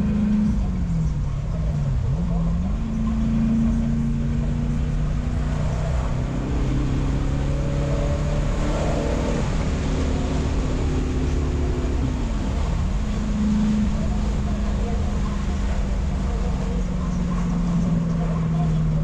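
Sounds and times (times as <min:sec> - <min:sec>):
car engine accelerating: 0:00.0 - 0:19.0
road noise: 0:00.0 - 0:19.0.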